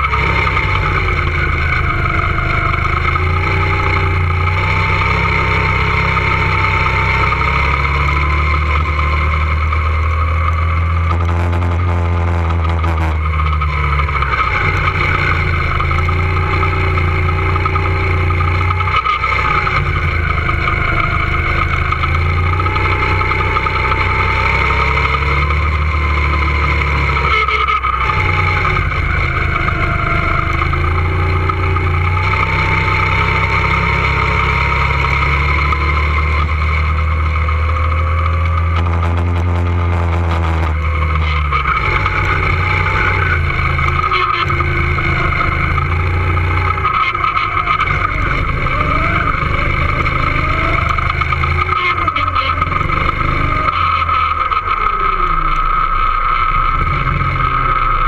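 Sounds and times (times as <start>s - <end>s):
go-kart motor: 0.0s - 58.0s.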